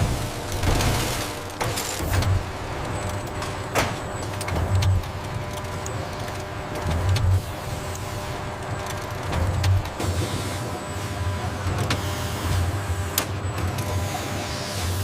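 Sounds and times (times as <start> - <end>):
factory machinery running: 0.0 - 15.0.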